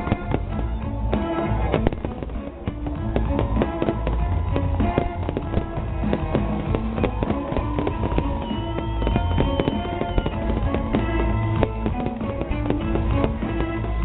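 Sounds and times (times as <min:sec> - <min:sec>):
fireworks bangs: 0:00.0 - 0:14.0
music with held notes: 0:00.0 - 0:14.0.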